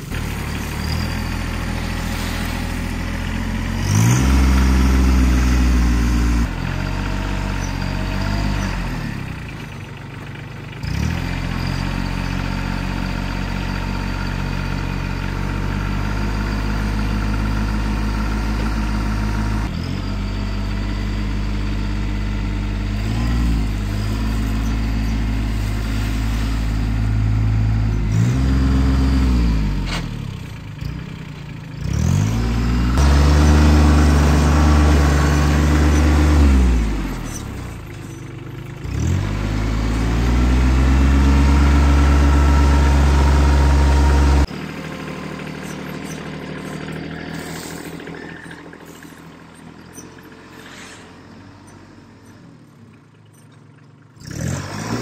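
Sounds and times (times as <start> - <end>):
vehicle engine revving: 0.0 - 9.8, 10.8 - 52.8, 54.2 - 55.0.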